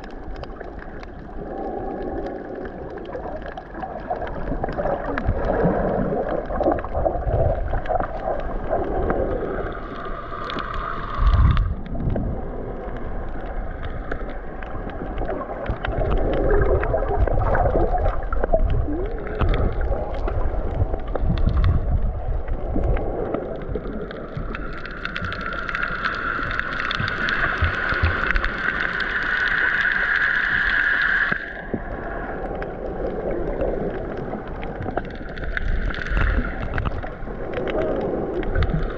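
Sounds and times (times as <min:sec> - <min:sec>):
underwater sloshing of water: 0:00.0 - 0:38.9.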